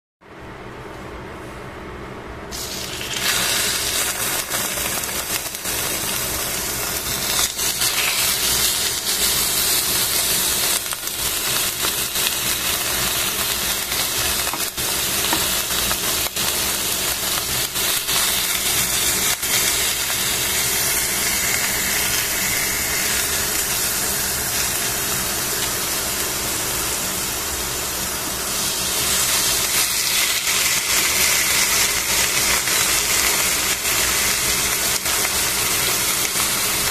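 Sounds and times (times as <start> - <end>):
beef sizzling in hot oil: 2.5 - 36.9.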